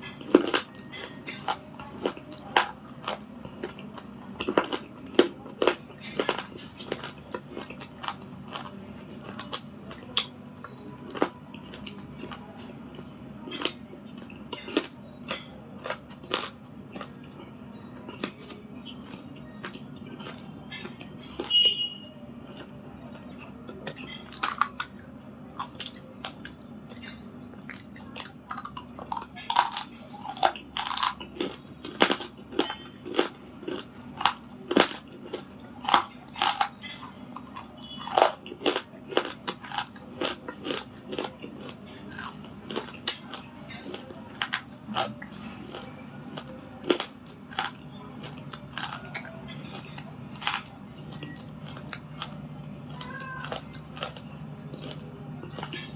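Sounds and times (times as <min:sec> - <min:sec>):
person crunching and chewing: 0:00.0 - 0:21.8, 0:22.4 - 0:55.9.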